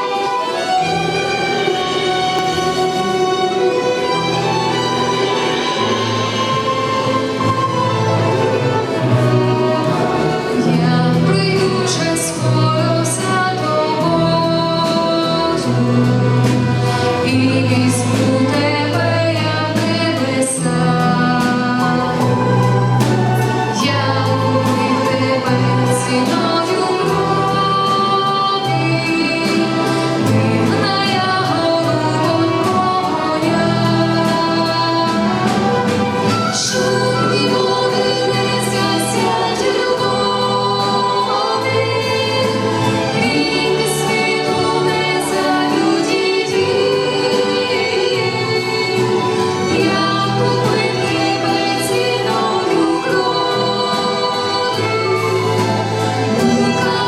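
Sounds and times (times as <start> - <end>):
choir singing a hymn: 0.0 - 57.0
orchestra accompanying: 0.0 - 57.0.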